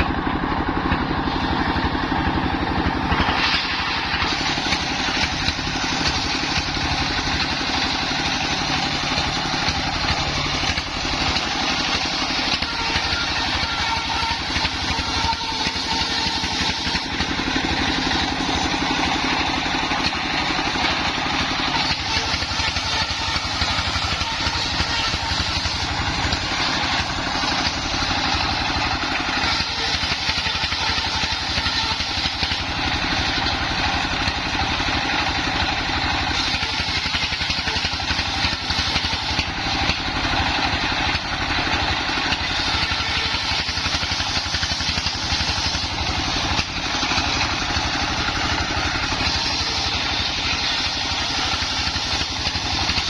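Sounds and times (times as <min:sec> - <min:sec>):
sawmill engine droning: 0:00.0 - 0:53.0.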